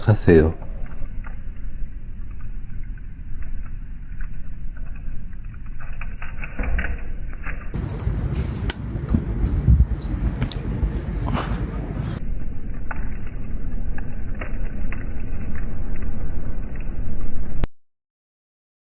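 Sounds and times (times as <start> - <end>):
fire crackles and pops: 0.0 - 17.7
wood fire rumbling in a stove: 0.0 - 17.7.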